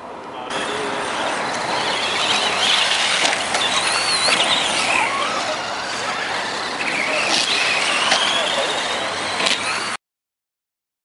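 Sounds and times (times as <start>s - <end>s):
rc truck motors whining: 0.5s - 10.0s
tyres rushing on loose dirt: 0.5s - 10.0s.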